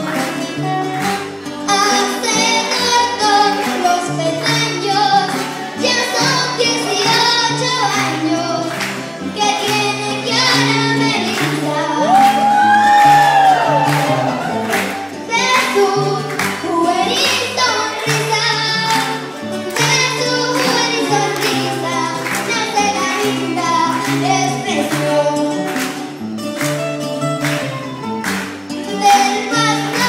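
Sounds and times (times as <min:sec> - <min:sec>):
girl singing into a microphone: 0:00.0 - 0:12.9, 0:15.1 - 0:25.7, 0:28.8 - 0:30.0
live band music: 0:00.0 - 0:30.0.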